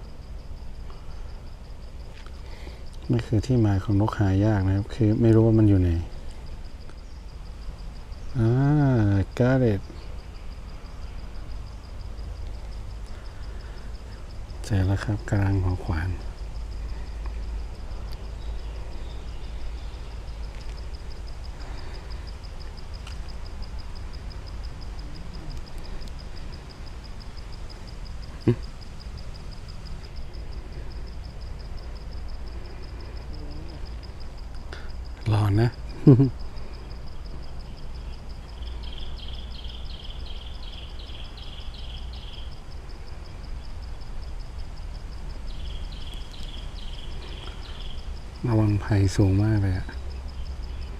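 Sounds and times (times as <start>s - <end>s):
insect chirping: 0.0s - 50.9s
low outdoor rumble: 0.0s - 50.9s.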